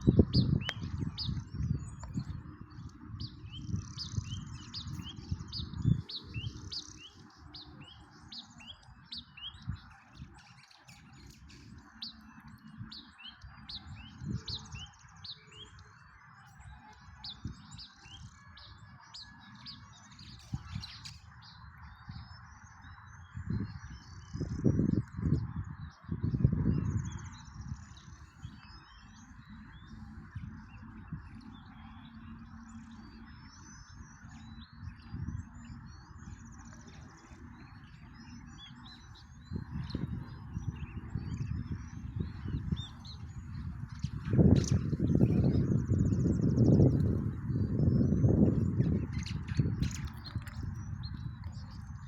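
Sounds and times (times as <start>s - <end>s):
small songbirds chirping: 0.0s - 52.0s.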